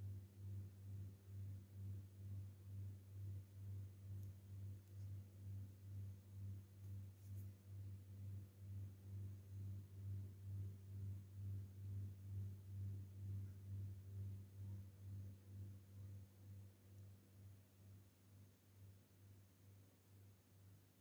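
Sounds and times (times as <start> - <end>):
faint low pulsing hum: 0.0 - 21.0.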